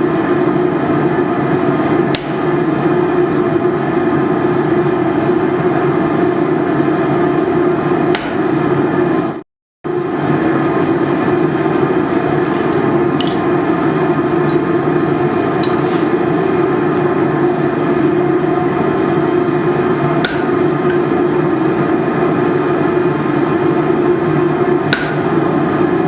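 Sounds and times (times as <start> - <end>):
gas forge burner rushing: 0.0 - 26.0.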